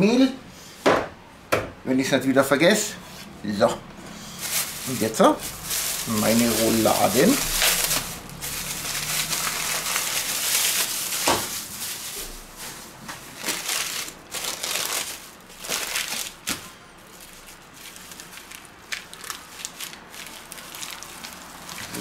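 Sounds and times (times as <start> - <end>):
paper wrapping crinkling: 4.4 - 22.0
plastic bag crumpling: 4.4 - 22.0.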